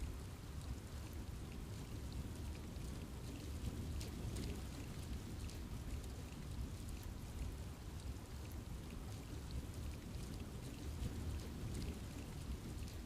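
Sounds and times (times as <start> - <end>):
rain falling on leaves: 0.0 - 13.0.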